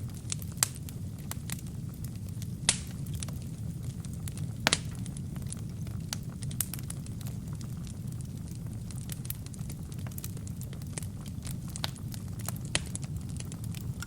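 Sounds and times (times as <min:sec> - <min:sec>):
fire crackling in fireplace: 0:00.0 - 0:14.0
sharp fire pops: 0:00.0 - 0:14.0.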